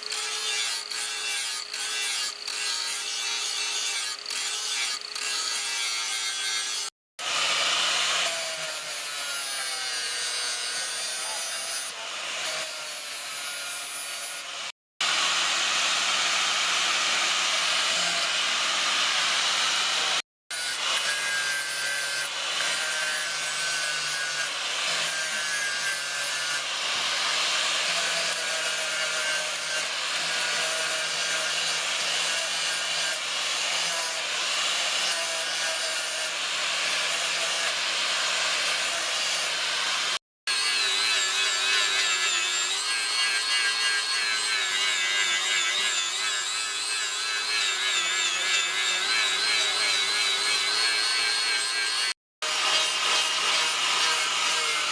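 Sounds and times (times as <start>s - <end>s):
electric grinder on steel: 0.0s - 54.9s.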